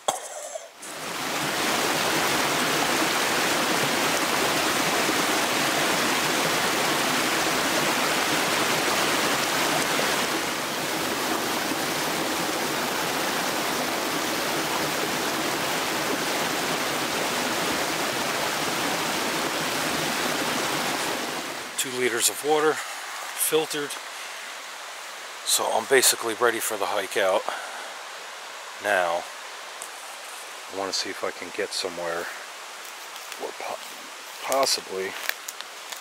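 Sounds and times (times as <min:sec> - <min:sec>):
stream rushing: 0:00.0 - 0:36.0.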